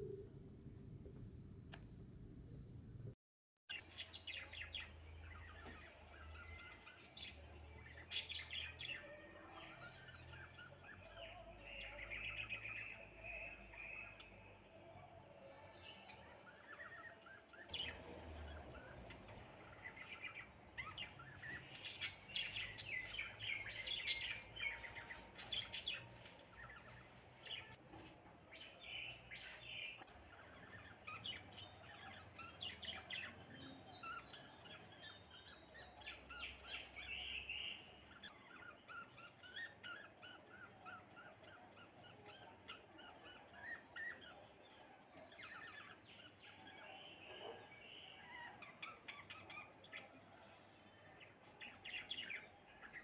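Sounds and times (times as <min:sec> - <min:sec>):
sparrows chirping: 0:03.7 - 0:53.0.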